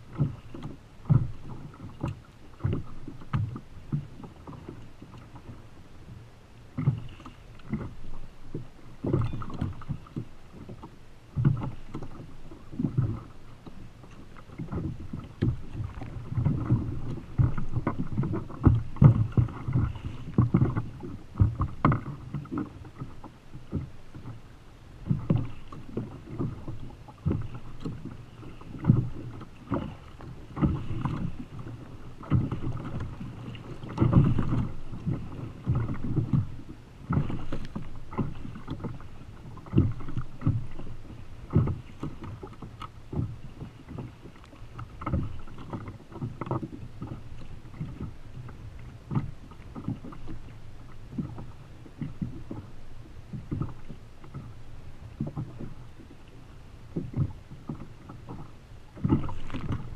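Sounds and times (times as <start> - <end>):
sea slapping against kayak hull: 0.0 - 59.9
wind on microphone: 11.4 - 59.9.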